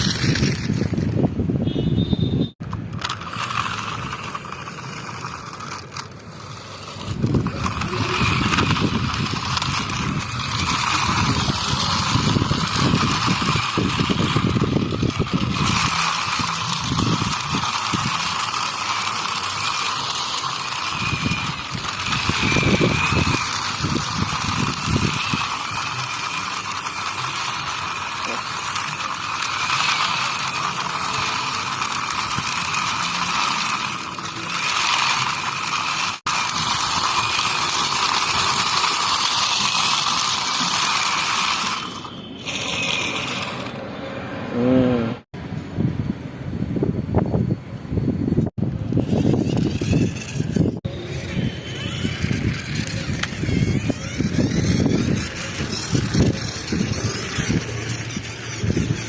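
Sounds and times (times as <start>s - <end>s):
rattling rumble: 0.0s - 1.6s, 2.6s - 43.8s, 48.4s - 59.0s
toy gear mechanism whirring: 0.0s - 43.8s, 48.4s - 59.0s.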